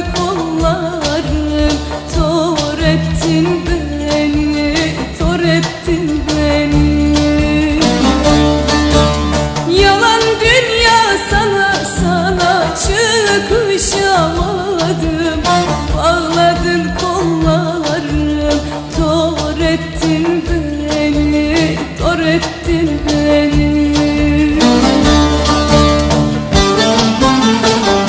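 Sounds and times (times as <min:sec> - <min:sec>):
bass and beat: 0:00.0 - 0:10.6, 0:11.2 - 0:28.0.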